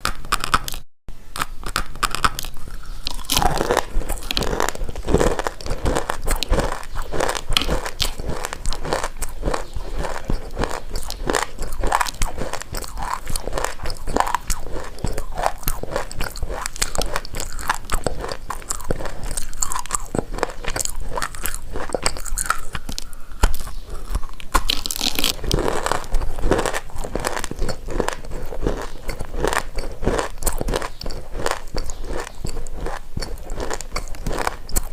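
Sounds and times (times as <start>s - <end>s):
dry crunching of soil being chewed: 1.4s - 34.9s.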